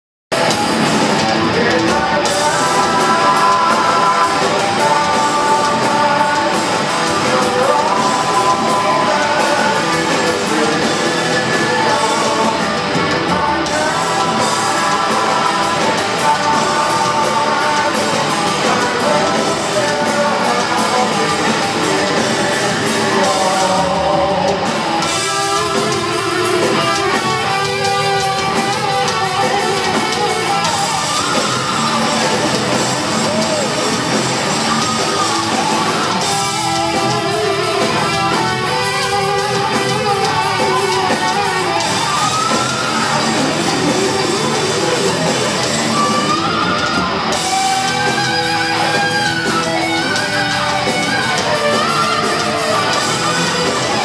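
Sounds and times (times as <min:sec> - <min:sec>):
live heavy metal band: 0:00.3 - 0:54.0
man singing: 0:00.3 - 0:54.0.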